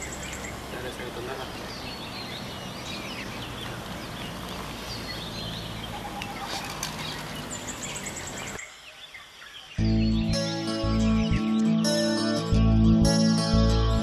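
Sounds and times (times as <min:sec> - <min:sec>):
birds chirping: 0:00.0 - 0:14.0
outdoor background noise: 0:00.0 - 0:14.0.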